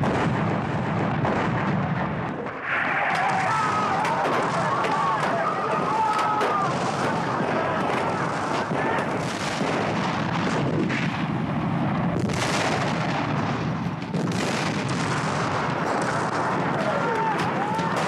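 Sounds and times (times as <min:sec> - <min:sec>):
cannon fire: 0:00.0 - 0:18.0
gunfire: 0:00.0 - 0:18.0.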